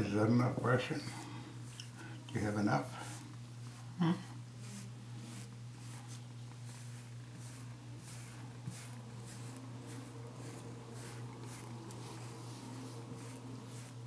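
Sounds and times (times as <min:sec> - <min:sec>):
steady low hum: 0:00.0 - 0:14.0
brush swishing through fur: 0:00.3 - 0:14.0.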